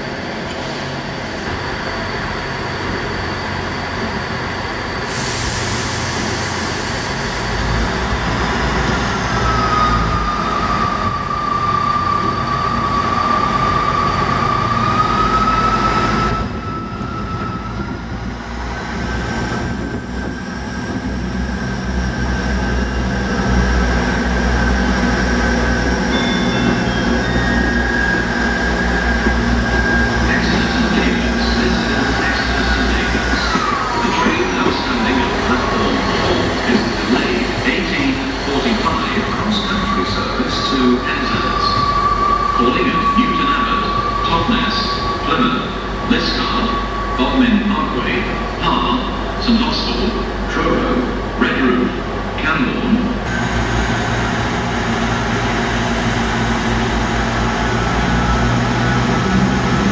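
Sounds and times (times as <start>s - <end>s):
wheel noise on rails: 0.0s - 42.5s, 53.2s - 59.9s
diesel train engine rumble: 0.0s - 59.9s.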